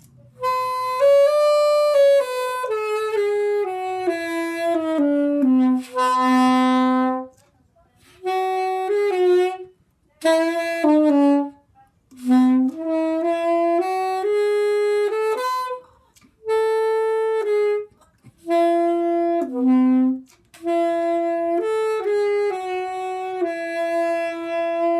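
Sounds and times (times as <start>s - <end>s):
soprano saxophone melody: 0.3s - 7.4s, 8.0s - 24.9s.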